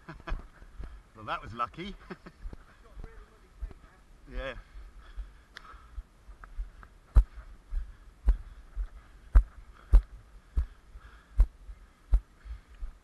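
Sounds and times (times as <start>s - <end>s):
footsteps walking: 0.0s - 10.8s.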